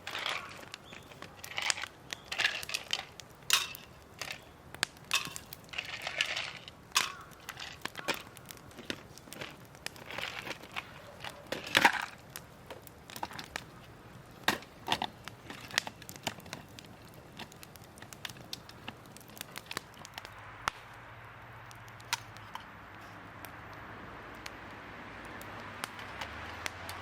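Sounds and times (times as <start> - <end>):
firewood snapping and knocking: 0.0 - 21.0, 21.7 - 22.7, 25.2 - 27.0
steady hiss: 0.0 - 27.0
wood fire crackling: 0.0 - 27.0.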